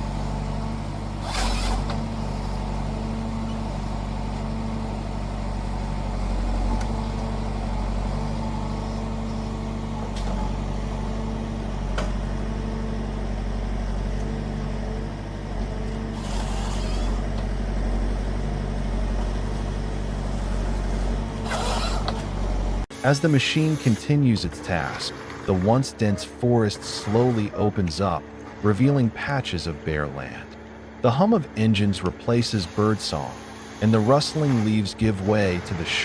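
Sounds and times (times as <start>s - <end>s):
harvester engine running under load: 0.0s - 36.0s.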